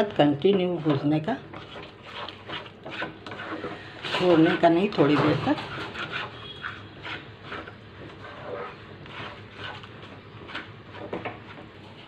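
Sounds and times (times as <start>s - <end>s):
spatula scraping pan: 0.4s - 12.0s.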